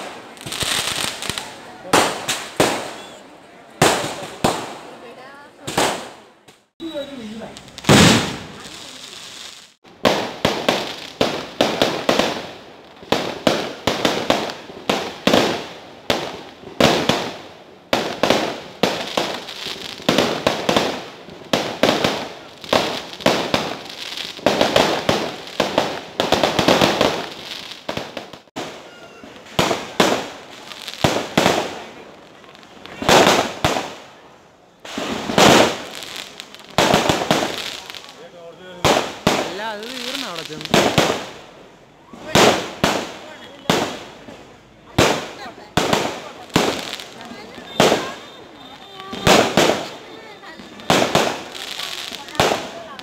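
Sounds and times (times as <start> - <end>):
fireworks bangs: 0.0 - 53.0
fireworks crackle: 0.0 - 53.0.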